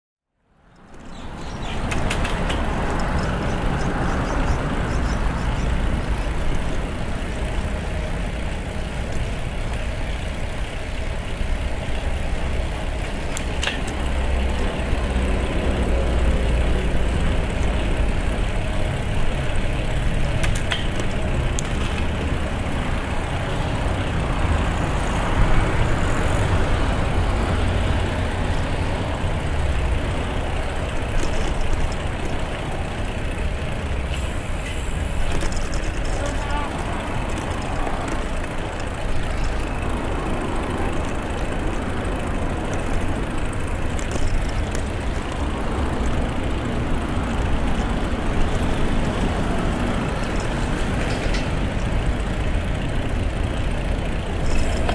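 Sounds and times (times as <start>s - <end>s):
road traffic rumble: 0.3s - 54.9s.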